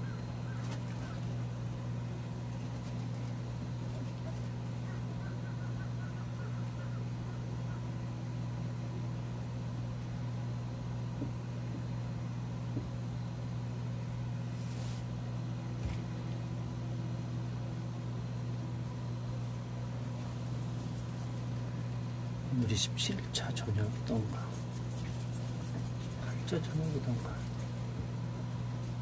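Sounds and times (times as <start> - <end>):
electric fan humming: 0.0 - 29.0.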